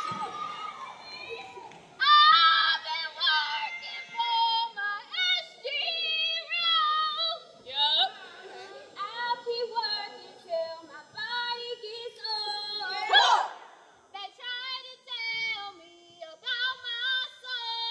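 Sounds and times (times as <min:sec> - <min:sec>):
women singing: 0:02.0 - 0:17.9.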